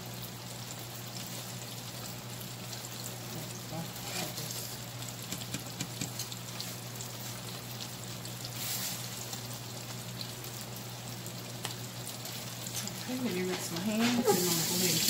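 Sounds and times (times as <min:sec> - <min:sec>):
fish frying in oil: 0:00.0 - 0:15.0
oil popping and crackling: 0:00.2 - 0:15.0.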